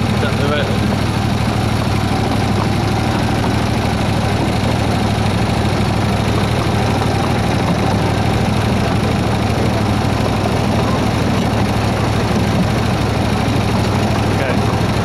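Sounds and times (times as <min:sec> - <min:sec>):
miniature locomotive engine humming: 0:00.0 - 0:15.0.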